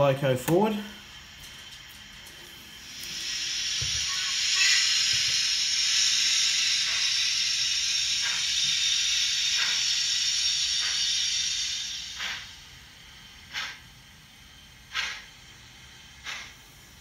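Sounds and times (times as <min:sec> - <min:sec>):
model steam locomotive hiss: 0:00.0 - 0:17.0
steam locomotive chuffs: 0:00.0 - 0:17.0.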